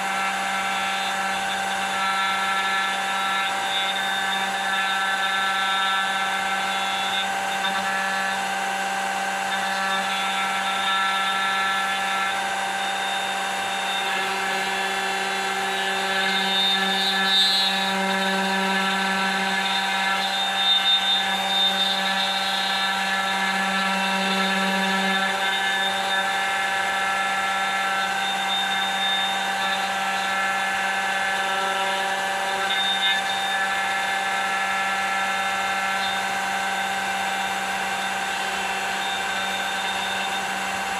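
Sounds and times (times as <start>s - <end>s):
electric router cutting wood: 0.0s - 40.9s.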